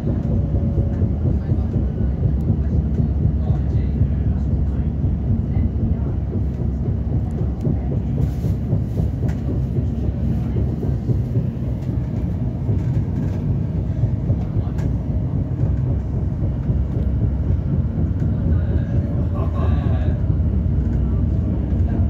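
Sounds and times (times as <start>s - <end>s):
train rumbling on track: 0.0s - 22.0s.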